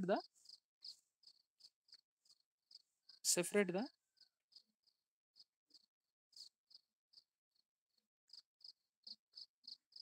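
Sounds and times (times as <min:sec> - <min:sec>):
cricket chirping: 0:00.0 - 0:07.6, 0:08.3 - 0:10.0.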